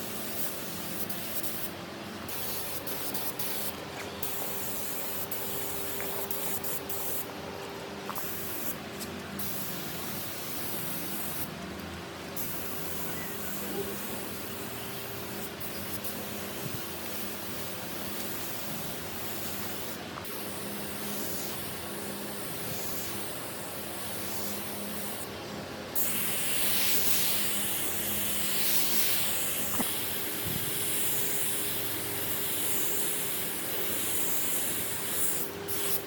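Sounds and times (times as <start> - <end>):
spray hissing onto wood: 0.0 - 7.3, 8.1 - 8.8, 9.4 - 11.5, 12.4 - 25.3, 26.0 - 36.0.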